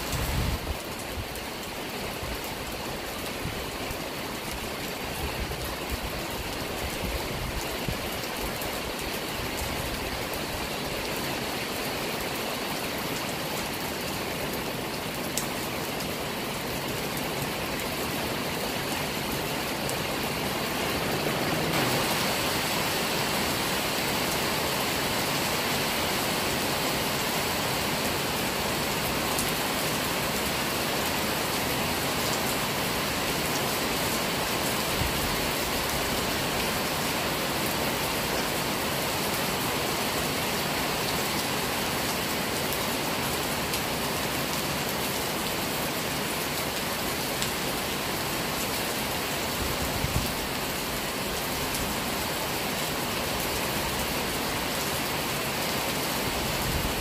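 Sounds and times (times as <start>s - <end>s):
heavy rain on trees and grass: 0.0s - 57.0s.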